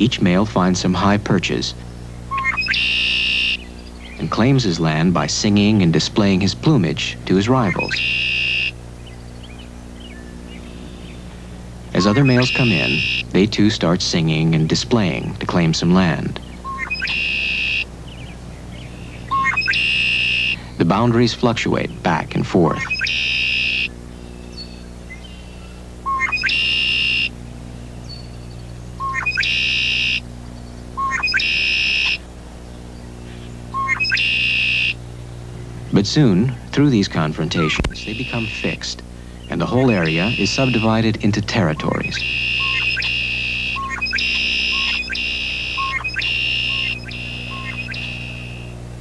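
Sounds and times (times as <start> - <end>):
blackbirds singing buzzy trills: 0.0 - 49.0.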